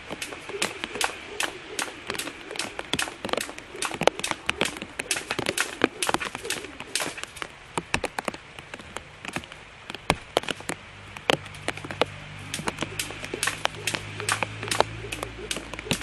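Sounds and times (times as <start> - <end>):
low steady hum: 0.0 - 16.0
raindrops tapping: 0.0 - 16.0.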